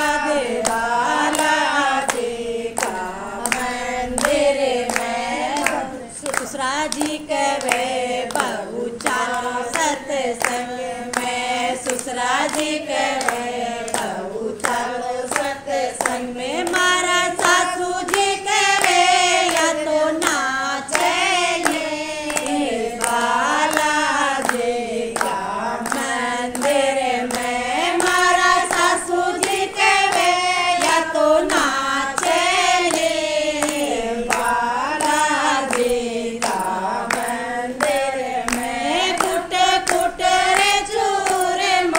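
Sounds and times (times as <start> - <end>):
group singing devotional song: 0.0 - 41.9
rhythmic hand-clapping: 0.0 - 41.9.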